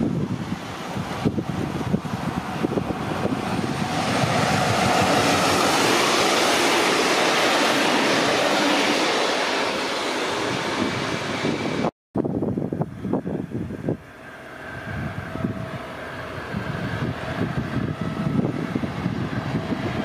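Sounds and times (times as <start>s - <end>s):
freight train passing: 0.0s - 20.0s.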